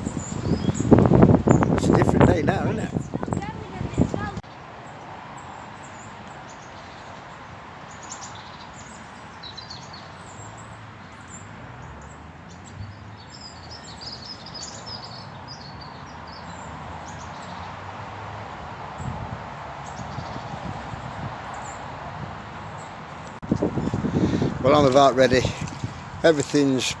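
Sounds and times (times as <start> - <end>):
small birds chirping and singing: 0.0 - 17.8, 22.8 - 27.0
steady outdoor hiss: 0.0 - 27.0.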